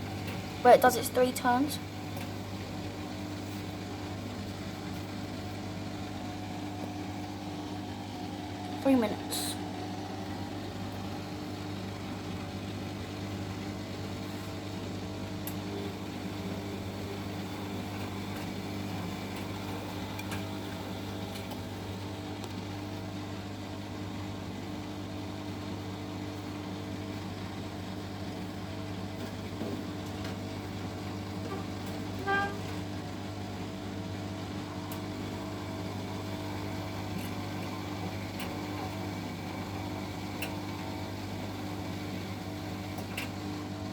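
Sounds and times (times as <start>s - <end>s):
washing machine low hum: 0.0s - 43.9s.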